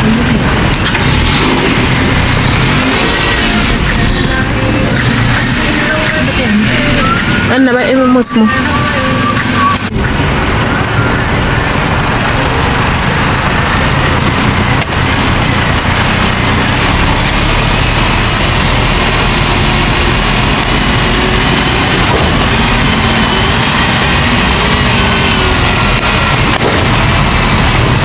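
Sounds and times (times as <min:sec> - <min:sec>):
vehicle road noise rumble: 0:00.0 - 0:28.0.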